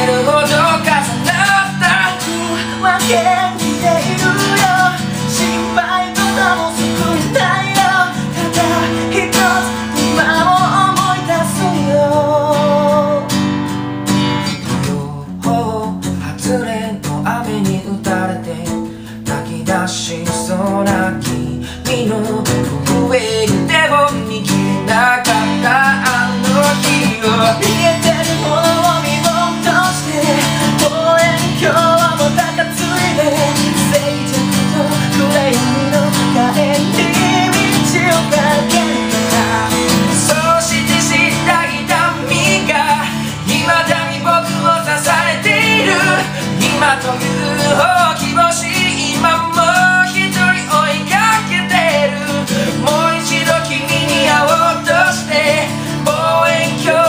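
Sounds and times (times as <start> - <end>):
man singing: 0.0 - 13.5, 14.6 - 57.0
strummed acoustic guitar: 0.0 - 57.0.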